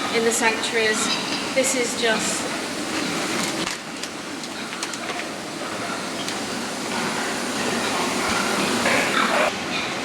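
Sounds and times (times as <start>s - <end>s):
pig shed din: 0.0s - 10.0s.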